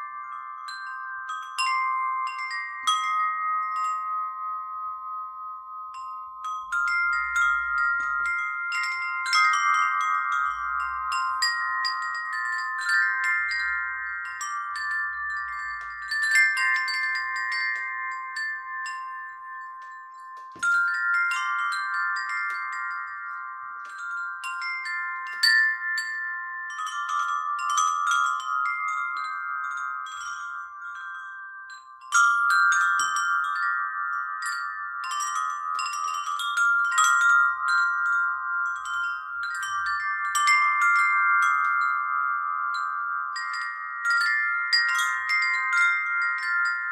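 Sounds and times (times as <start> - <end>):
chimes ringing: 0.0 - 46.9.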